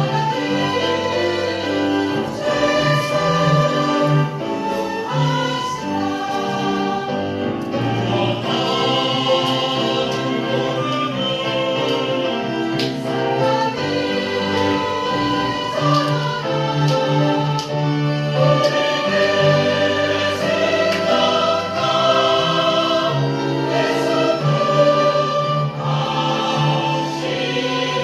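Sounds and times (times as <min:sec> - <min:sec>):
choir singing with accompaniment: 0:00.0 - 0:28.0.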